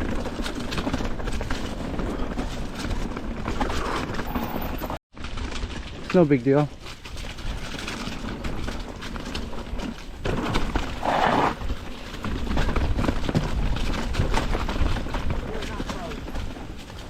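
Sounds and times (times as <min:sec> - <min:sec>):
mountain bike rattling over rocks: 0:00.0 - 0:17.0.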